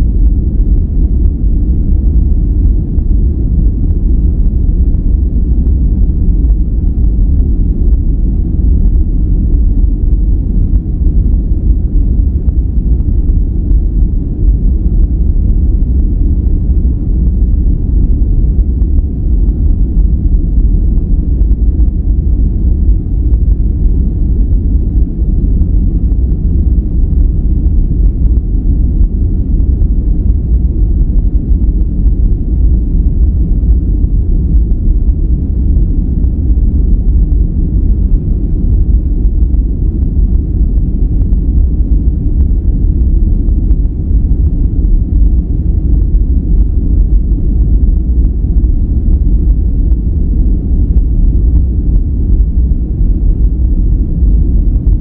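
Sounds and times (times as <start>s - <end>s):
deep bass-heavy steady noise: 0.0s - 55.0s.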